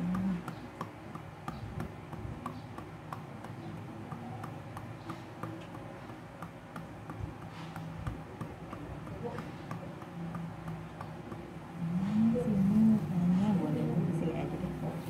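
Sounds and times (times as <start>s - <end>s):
hand patting bare back: 0.0s - 13.1s.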